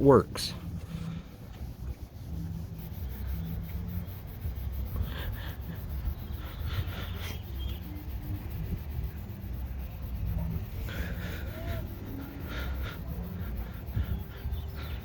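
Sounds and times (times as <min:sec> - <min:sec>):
steady low rumble: 0:00.0 - 0:15.0
hand rubbing compound into paint: 0:00.3 - 0:15.0.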